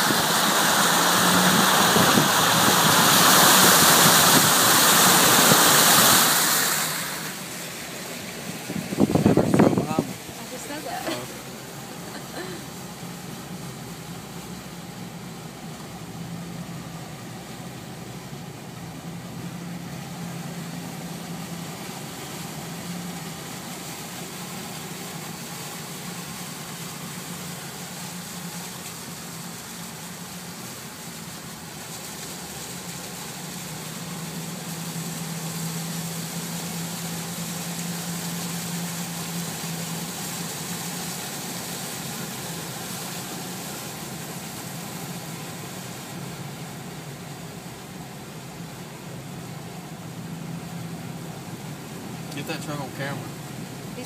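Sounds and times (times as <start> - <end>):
vehicle engine running: 0.0 - 54.0
water washing against vehicle: 0.0 - 54.0.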